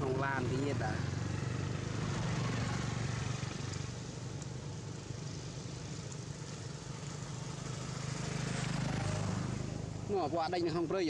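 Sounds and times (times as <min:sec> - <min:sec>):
engine humming steadily: 0:00.0 - 0:11.0
outdoor background noise: 0:00.0 - 0:11.0.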